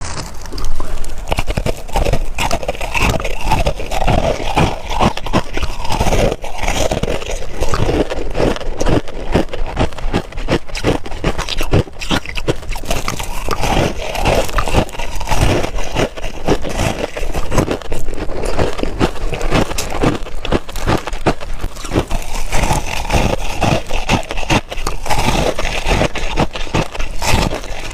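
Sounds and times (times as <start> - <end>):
crushed ice being chewed: 0.0 - 27.9.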